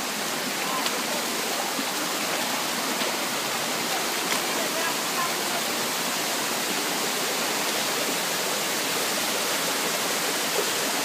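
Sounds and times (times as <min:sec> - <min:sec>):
waterfall splashing over rocks: 0:00.0 - 0:11.0.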